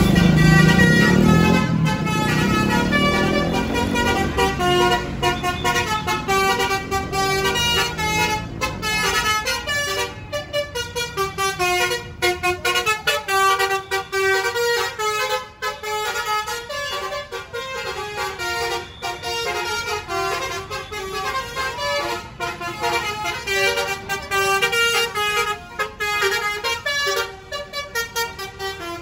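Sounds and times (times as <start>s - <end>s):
bus engine rumble: 0.0s - 29.0s
bus horns playing tunes: 0.0s - 29.0s.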